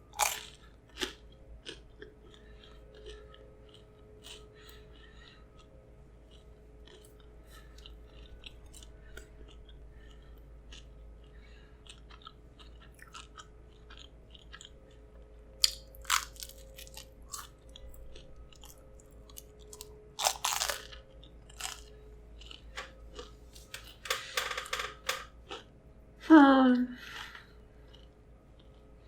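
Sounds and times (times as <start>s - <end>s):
mouth chewing pizza: 0.0s - 24.0s.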